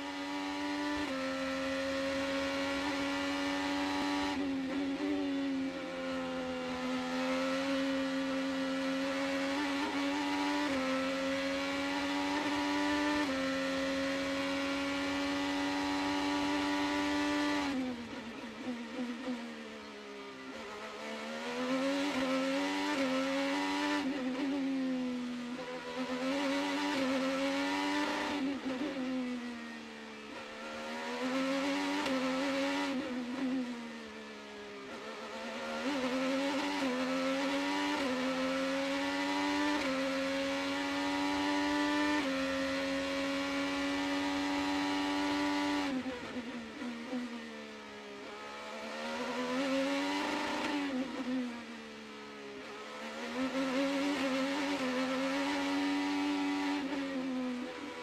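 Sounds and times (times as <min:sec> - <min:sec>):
race car engine revving: 0:00.0 - 0:05.2, 0:05.9 - 0:18.2, 0:20.5 - 0:29.0, 0:30.3 - 0:33.6, 0:34.8 - 0:47.2, 0:48.2 - 0:51.8, 0:52.7 - 0:58.0.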